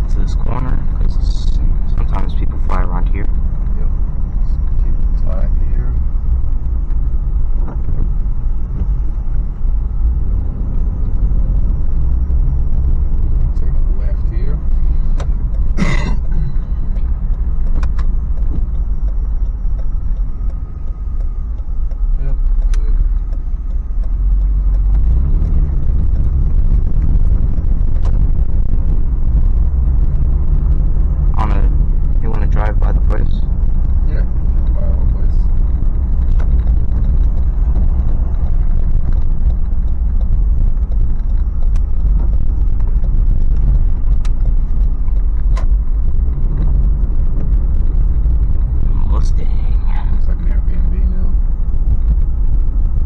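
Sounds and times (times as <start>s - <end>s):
car engine rumble: 0.0s - 53.0s
road noise inside car: 0.0s - 53.0s.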